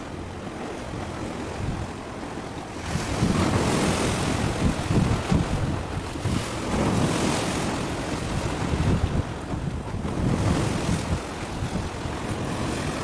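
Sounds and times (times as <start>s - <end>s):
sea and surf: 0.0s - 13.0s
wind buffeting microphone: 0.0s - 13.0s.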